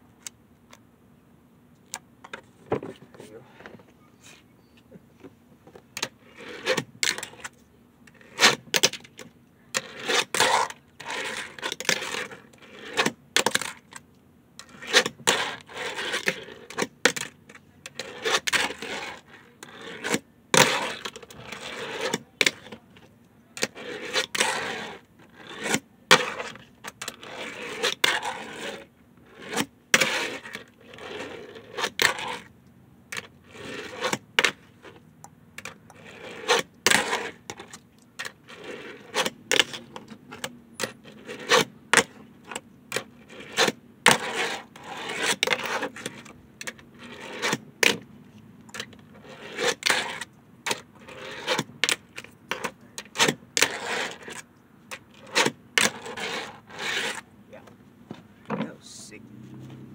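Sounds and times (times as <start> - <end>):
fingerboard deck scraping: 2.2 - 14.0, 14.6 - 32.5, 33.1 - 35.0, 35.6 - 59.9
fingerboard wheels rolling: 5.2 - 59.9.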